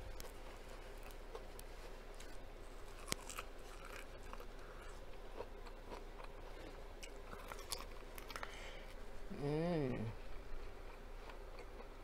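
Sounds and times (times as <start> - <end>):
chewing corn kernels: 0.0 - 8.6, 10.5 - 12.0.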